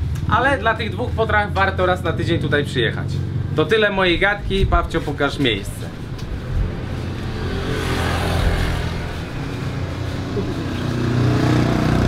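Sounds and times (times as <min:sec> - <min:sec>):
steady low rumble: 0:00.4 - 0:11.1
vehicle driving past: 0:01.5 - 0:12.0.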